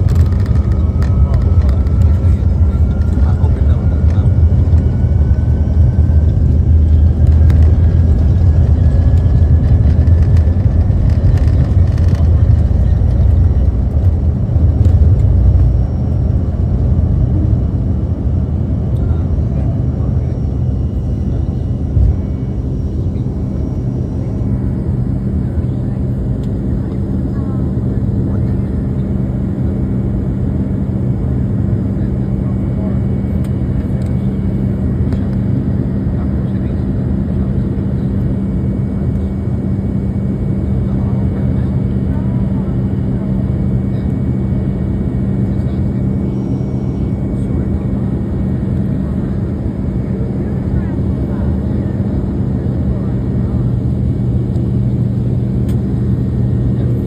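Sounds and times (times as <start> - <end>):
constant low hum: 0.0 - 57.0
jet engines roaring: 0.0 - 57.0.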